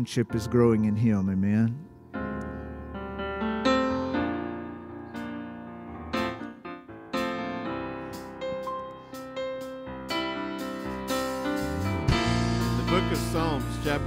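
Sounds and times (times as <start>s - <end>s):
electric piano playing slow chords: 0.0s - 14.0s.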